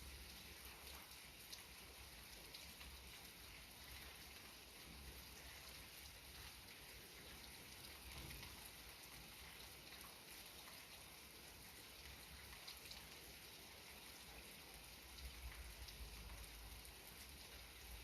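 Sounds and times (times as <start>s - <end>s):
light rain hiss: 0.0s - 18.0s.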